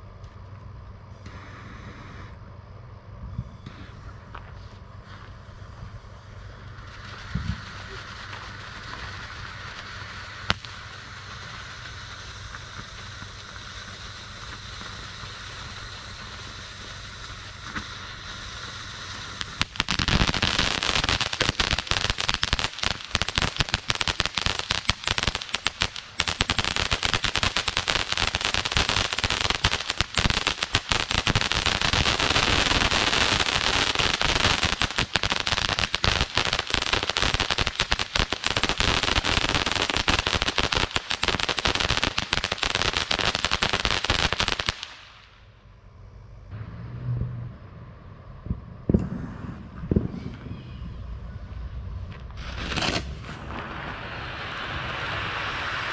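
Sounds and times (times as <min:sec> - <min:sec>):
firework fountain hissing: 0:01.1 - 0:02.4, 0:03.7 - 0:45.6, 0:48.9 - 0:55.9
firework crackling: 0:03.6 - 0:45.8, 0:48.4 - 0:55.9.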